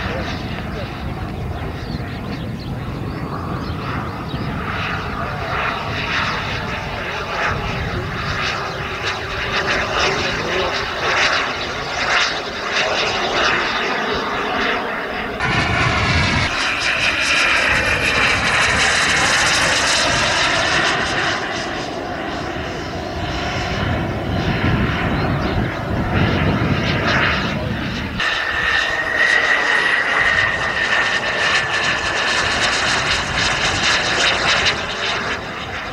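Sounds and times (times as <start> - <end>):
model jet turbine engine: 0.0 - 35.9
wind buffeting microphone: 0.0 - 35.9.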